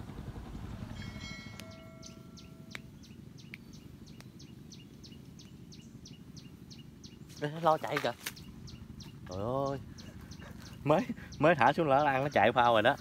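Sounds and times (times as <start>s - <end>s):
low steady rumble: 0.0s - 13.0s
bird chirping: 1.4s - 13.0s.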